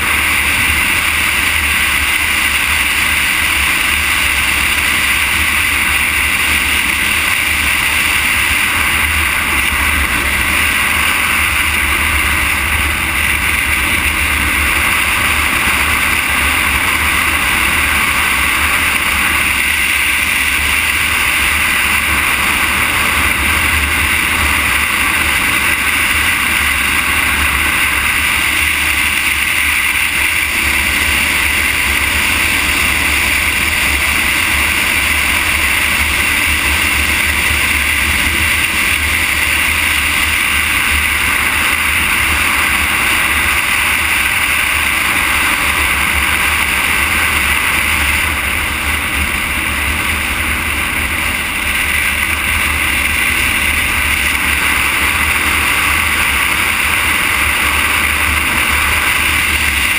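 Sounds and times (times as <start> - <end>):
road noise: 0.0 - 59.9.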